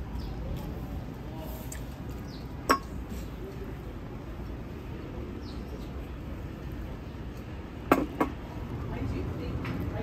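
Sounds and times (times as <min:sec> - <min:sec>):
faint background chatter: 0:00.0 - 0:10.0.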